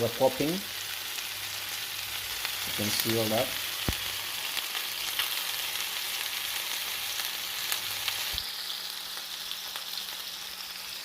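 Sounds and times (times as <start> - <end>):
chicken frying in a pan: 0.0 - 11.0
small pops of frying: 0.4 - 11.0.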